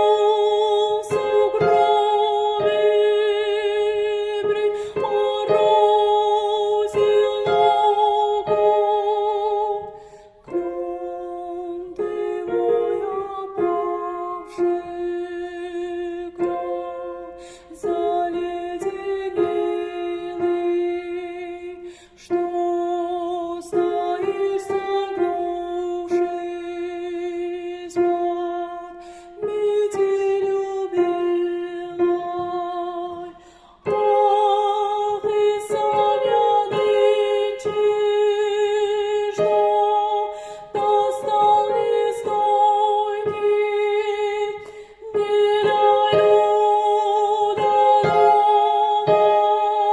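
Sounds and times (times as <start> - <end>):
slow melody with vibrato: 0.0 - 49.9.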